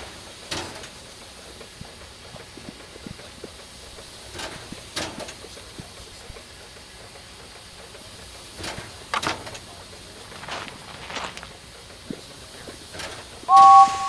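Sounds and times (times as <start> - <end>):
steady background hiss: 0.0 - 14.0
steam engine hissing bursts: 0.0 - 14.0.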